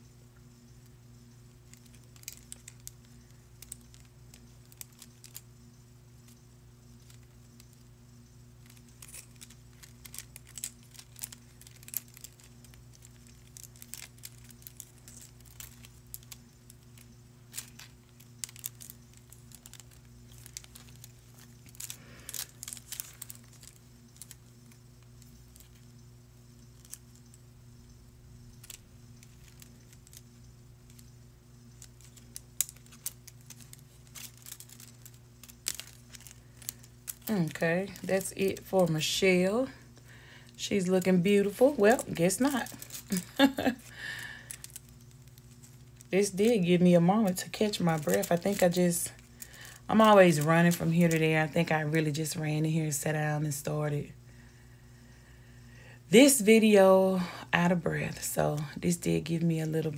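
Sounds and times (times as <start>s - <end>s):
low electrical hum: 0.0s - 59.9s
small objects clicking and rustling: 0.6s - 52.4s.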